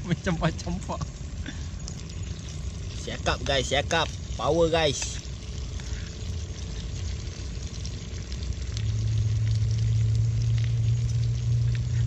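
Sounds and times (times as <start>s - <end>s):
fish sizzling in a pan: 0.0s - 12.0s
steady low hum: 0.0s - 12.0s.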